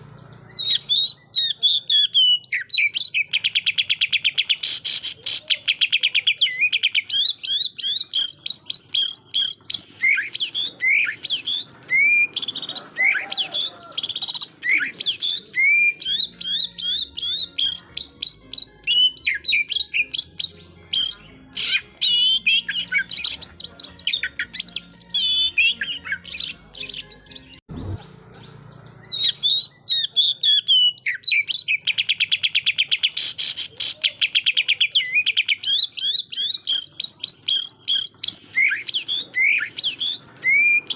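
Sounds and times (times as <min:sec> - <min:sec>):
bird singing fast varied song: 0:00.0 - 0:40.9.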